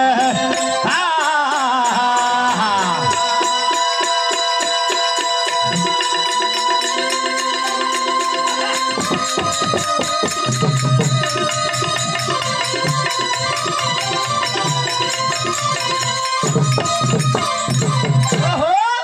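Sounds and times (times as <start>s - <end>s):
fast hand-drum beats: 0.0s - 19.0s.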